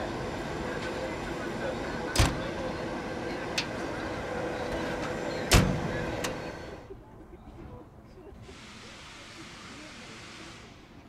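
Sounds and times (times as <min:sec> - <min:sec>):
electric locomotive humming: 0:00.0 - 0:11.0.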